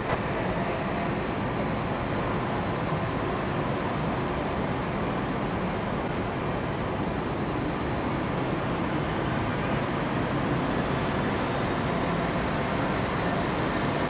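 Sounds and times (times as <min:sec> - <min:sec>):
diesel railcar engine running: 0:00.0 - 0:14.0.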